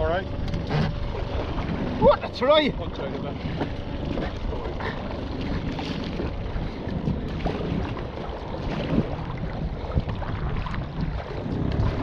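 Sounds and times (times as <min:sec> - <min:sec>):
water splashing around kayak: 0:00.0 - 0:12.0
wind rumbling on microphone: 0:00.0 - 0:12.0.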